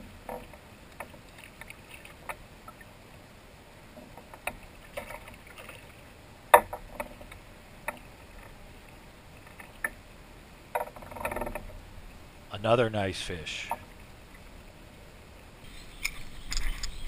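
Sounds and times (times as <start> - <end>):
light water sounds: 0.0 - 17.0.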